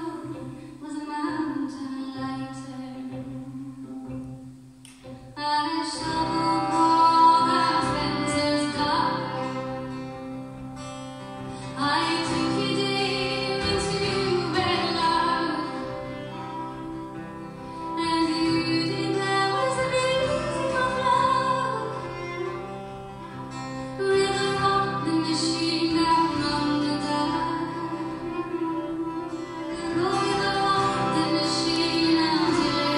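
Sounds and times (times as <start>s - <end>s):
woman singing: 0.0s - 4.5s, 5.2s - 10.0s, 11.6s - 17.2s, 17.8s - 22.6s, 23.9s - 32.9s
fiddle and guitars: 0.0s - 32.9s.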